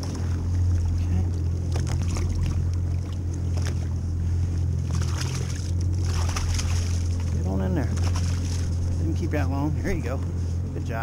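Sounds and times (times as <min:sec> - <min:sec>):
water splashes: 0:00.0 - 0:10.7
outboard engine idling: 0:00.0 - 0:11.0.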